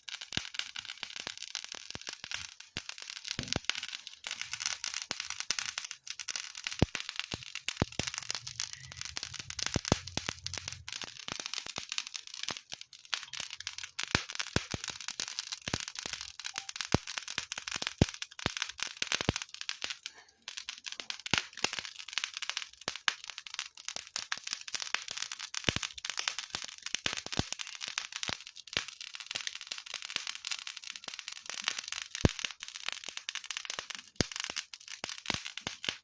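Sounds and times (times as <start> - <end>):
fire crackling and popping: 0.0 - 36.0.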